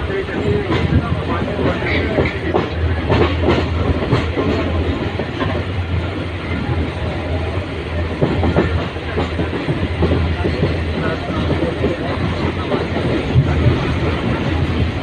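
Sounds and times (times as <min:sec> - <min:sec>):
train coach rumble: 0:00.0 - 0:15.0.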